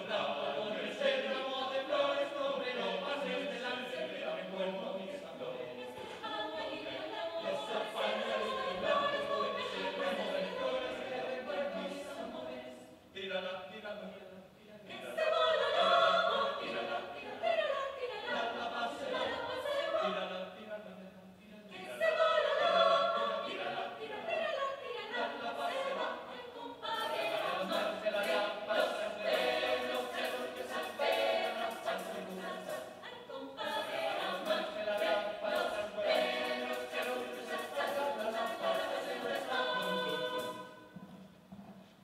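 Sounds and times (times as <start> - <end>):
mixed choir singing a cappella: 0.0 - 41.1.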